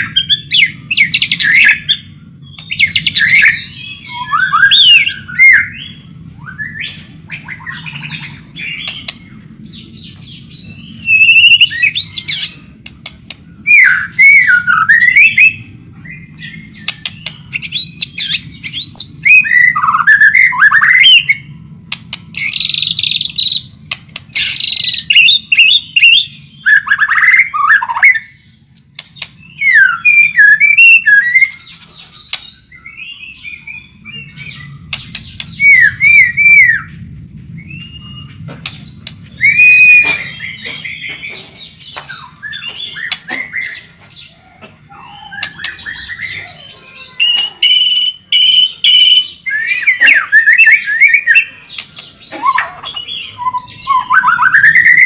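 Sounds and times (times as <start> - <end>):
steady low hum: 0.0 - 46.6
songbird singing whistles and rasps: 0.0 - 55.0.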